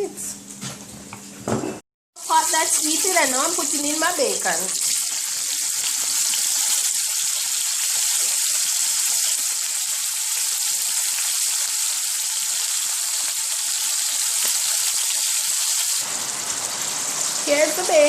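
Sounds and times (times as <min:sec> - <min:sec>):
bacon sizzling: 0:02.2 - 0:18.0.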